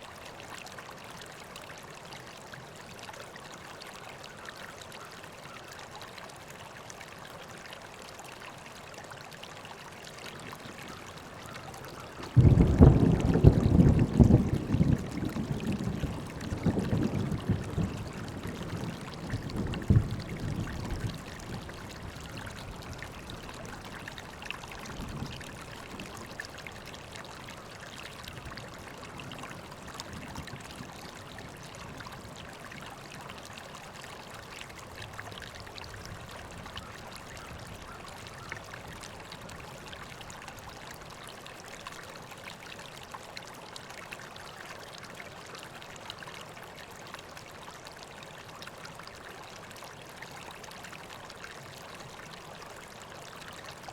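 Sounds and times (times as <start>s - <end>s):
river water flowing: 0.0s - 53.9s.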